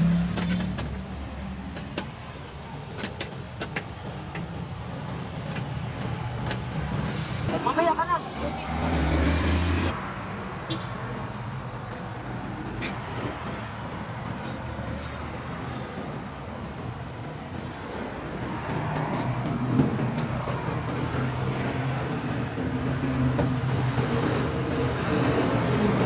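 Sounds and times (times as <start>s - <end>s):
vehicle rumbling: 0.0s - 26.0s.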